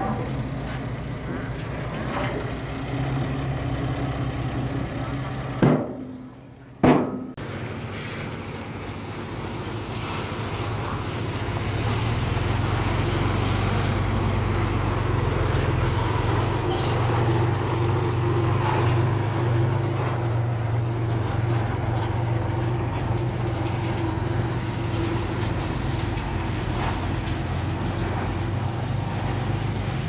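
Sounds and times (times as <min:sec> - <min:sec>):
heavy diesel engine drone: 0:00.0 - 0:06.8, 0:07.4 - 0:30.0.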